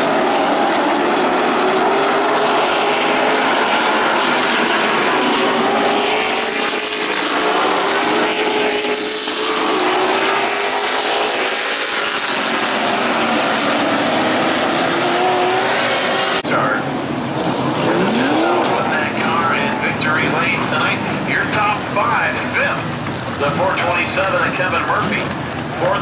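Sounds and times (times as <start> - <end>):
race car engines droning: 0.0 - 26.0.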